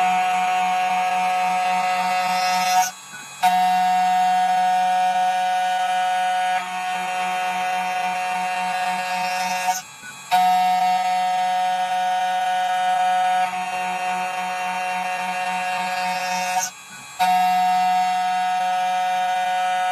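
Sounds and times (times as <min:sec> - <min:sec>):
buzzy synth drone: 0:00.0 - 0:19.9.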